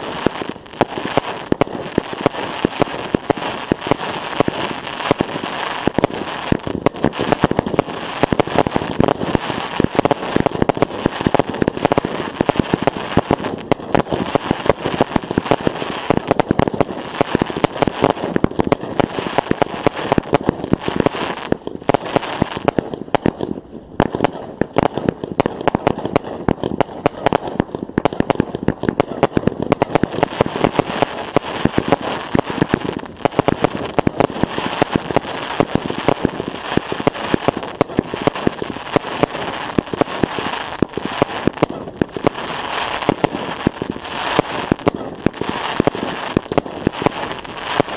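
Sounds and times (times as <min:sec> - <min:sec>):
fireworks popping and crackling: 0:00.0 - 0:47.9.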